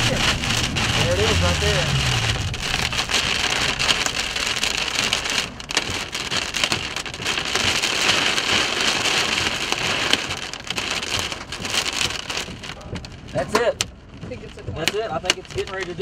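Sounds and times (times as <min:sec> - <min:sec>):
rain drumming on car windows: 0:00.0 - 0:16.0.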